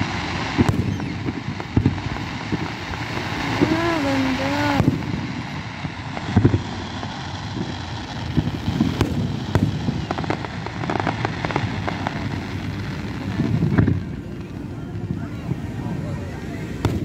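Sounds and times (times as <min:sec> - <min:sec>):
firework shells booming: 0:00.0 - 0:14.1, 0:16.8 - 0:17.0
sharp firework cracks: 0:00.0 - 0:15.9, 0:16.8 - 0:17.0.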